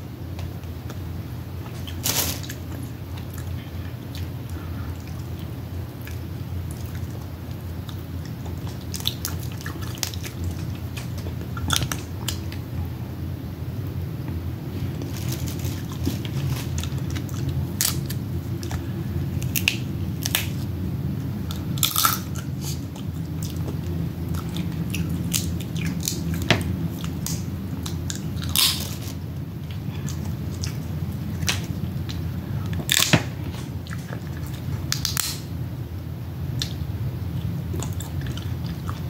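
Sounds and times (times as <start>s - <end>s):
steady low hum: 0.0s - 39.0s
chewing and crunching: 0.3s - 12.7s, 14.7s - 20.8s, 21.4s - 35.5s, 36.6s - 39.0s.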